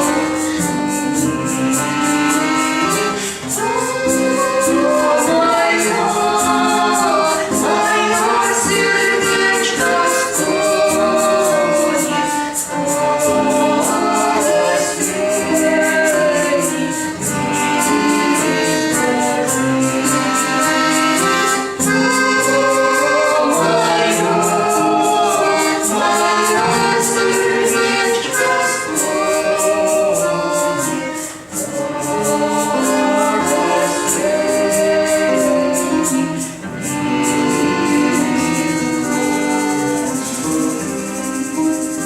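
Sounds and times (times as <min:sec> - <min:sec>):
choir singing folk song: 0:00.0 - 0:42.0
instrumental accompaniment: 0:00.0 - 0:42.0
steady ticking beat: 0:00.0 - 0:42.0.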